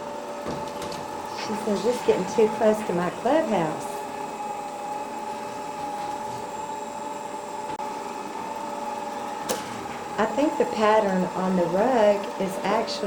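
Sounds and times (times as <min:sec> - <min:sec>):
robot vacuum motor hum and whine: 0:00.0 - 0:13.0.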